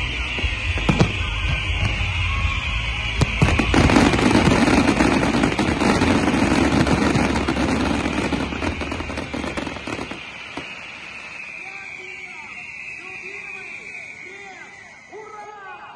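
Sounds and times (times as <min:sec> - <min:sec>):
fireworks bangs and crackle: 0:00.0 - 0:14.4.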